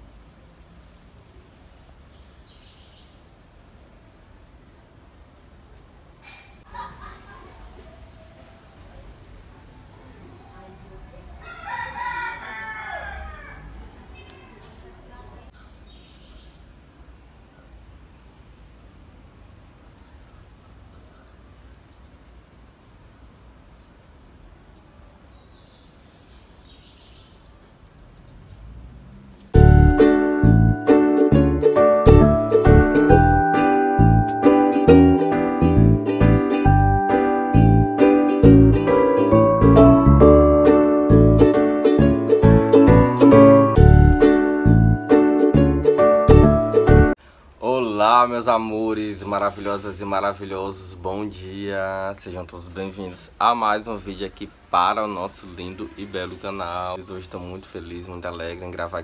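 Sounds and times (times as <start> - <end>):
birds chirping: 0.0 - 35.3, 38.7 - 59.0.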